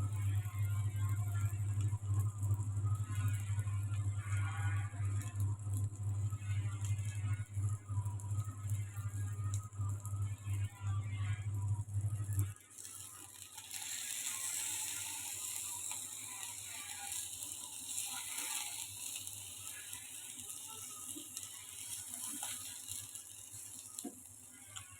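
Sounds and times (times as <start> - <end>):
fish sizzling in a pan: 0.0 - 24.9.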